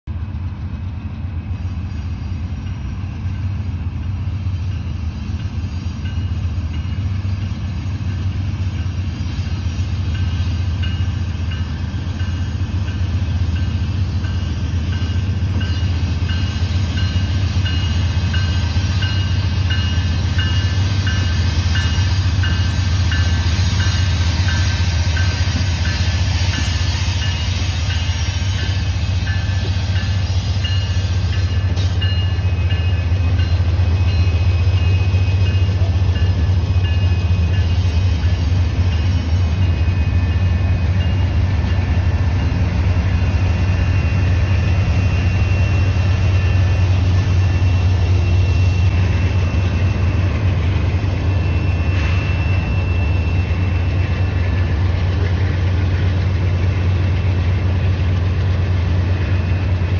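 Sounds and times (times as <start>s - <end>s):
diesel locomotive engines rumbling: 0.0s - 59.9s.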